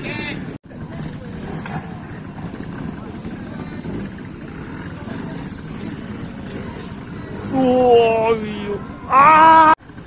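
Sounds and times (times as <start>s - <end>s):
spectators' voices: 0.0s - 9.8s
motorcycle engine at low revs: 0.6s - 9.2s, 9.8s - 10.0s.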